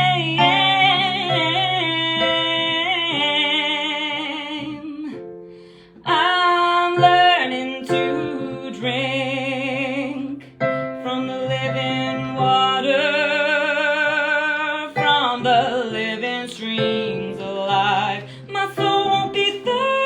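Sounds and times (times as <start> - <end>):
sustained keyboard chords: 0.0 - 20.0.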